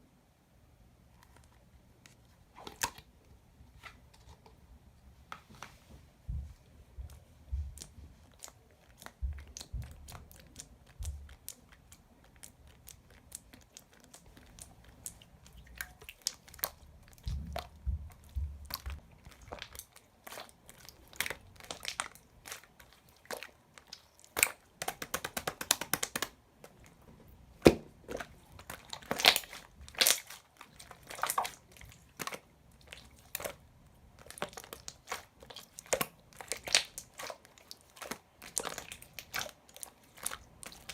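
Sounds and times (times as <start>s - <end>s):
slime being squished: 7.0s - 40.9s.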